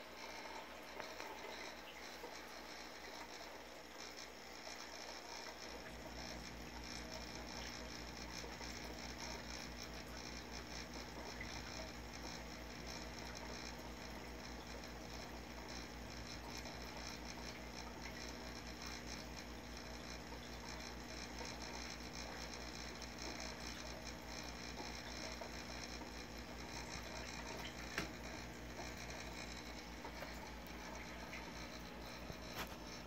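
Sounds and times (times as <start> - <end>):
aquarium equipment hum: 0.0 - 33.0
fine crackle of circulating water: 0.0 - 33.0.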